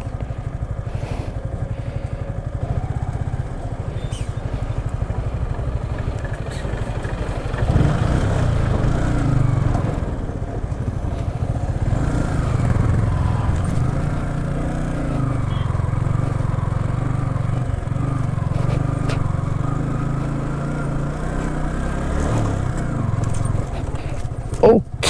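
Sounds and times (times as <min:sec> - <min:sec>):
motorcycle engine running: 0:00.0 - 0:25.0
lorry rumbling past: 0:01.4 - 0:23.3.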